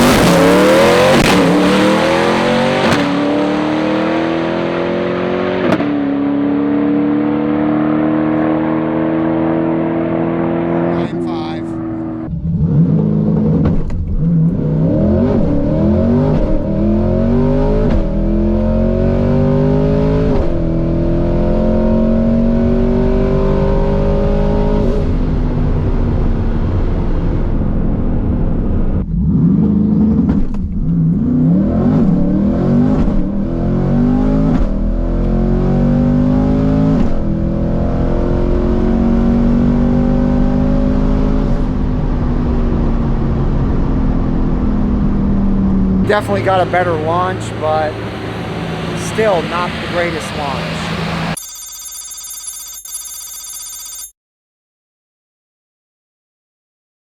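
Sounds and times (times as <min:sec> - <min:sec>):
drag car engine accelerating: 0:00.0 - 0:51.4.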